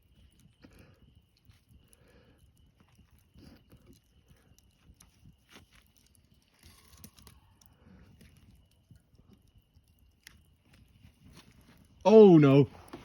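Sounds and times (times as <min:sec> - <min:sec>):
campfire crackles and snaps: 0:00.0 - 0:13.0.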